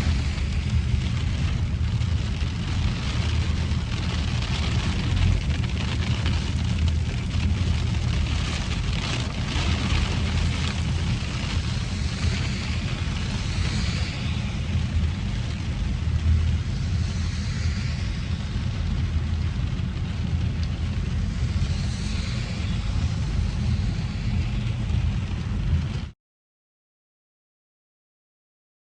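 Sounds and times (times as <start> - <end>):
rainstorm rumble and hiss: 0.0 - 26.2.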